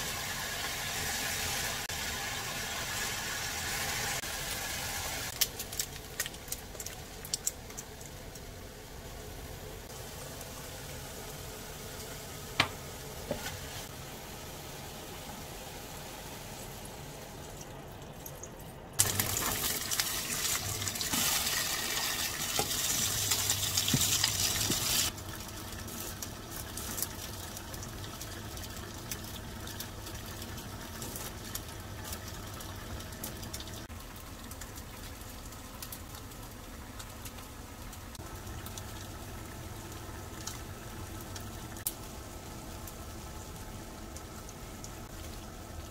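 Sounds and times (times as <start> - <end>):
patties sizzling in frying pan: 0.0 - 17.6, 19.0 - 45.9.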